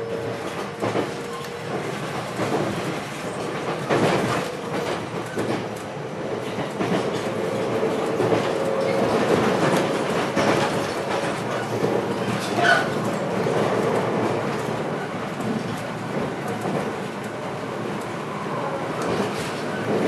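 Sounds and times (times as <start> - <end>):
train wheels clicking on rail joints: 0.2 - 18.2, 19.0 - 20.0.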